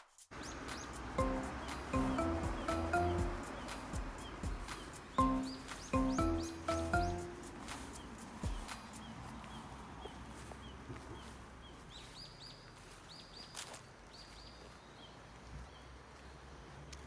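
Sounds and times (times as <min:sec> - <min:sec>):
small bird chirping: 0:00.3 - 0:15.2.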